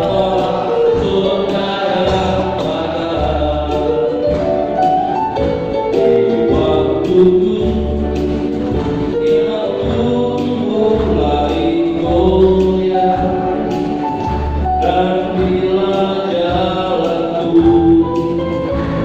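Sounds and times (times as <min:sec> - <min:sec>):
man singing hymn into microphone: 0:00.0 - 0:04.8, 0:06.1 - 0:19.0
electronic keyboard: 0:00.0 - 0:19.0.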